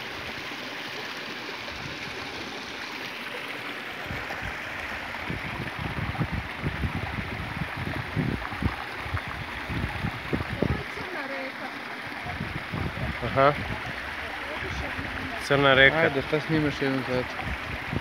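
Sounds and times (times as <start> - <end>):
stream flowing over boulders: 0.0 - 18.0.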